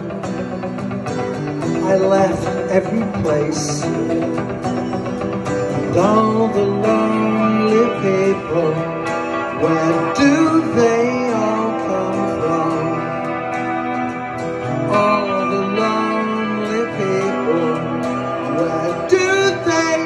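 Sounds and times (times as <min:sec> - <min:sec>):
acoustic guitar: 0:00.0 - 0:20.0
electric guitar bending notes: 0:00.0 - 0:20.0.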